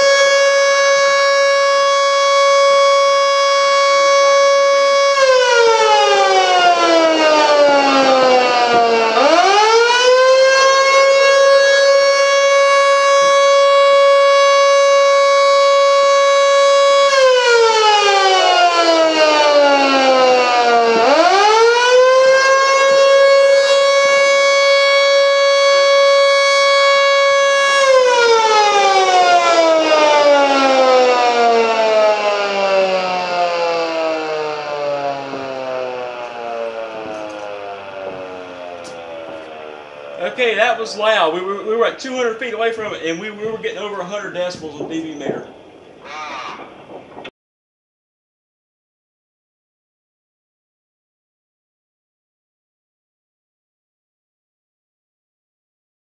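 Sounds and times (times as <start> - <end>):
air raid siren wailing: 0.0 - 47.2.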